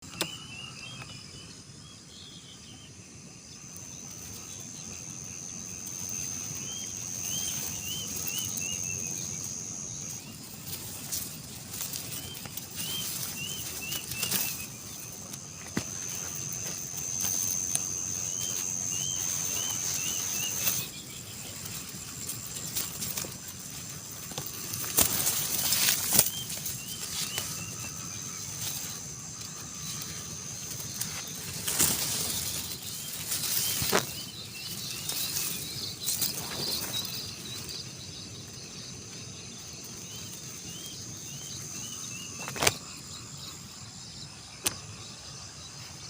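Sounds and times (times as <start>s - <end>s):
bird chirping: 0.0s - 46.0s
high insect drone: 0.0s - 46.0s.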